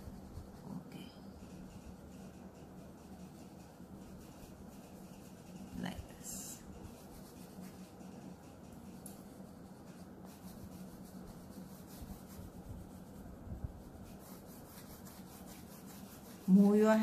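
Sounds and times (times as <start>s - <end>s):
faint steady hum: 0.0s - 17.0s
oil pastel scratching on paper: 0.0s - 17.0s.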